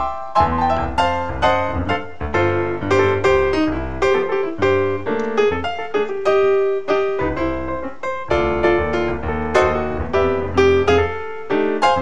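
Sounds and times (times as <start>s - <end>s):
lively piano music: 0.0s - 12.0s.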